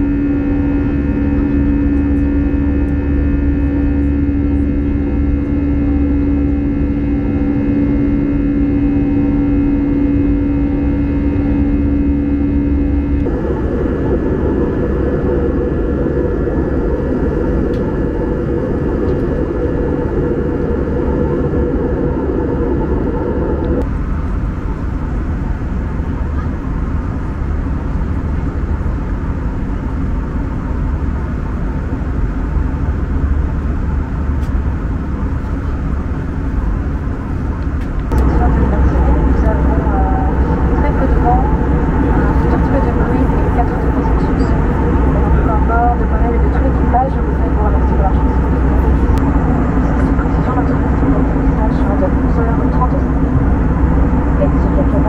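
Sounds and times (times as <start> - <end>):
jet engine cabin rumble: 0.0 - 55.0
steady hum: 0.0 - 55.0.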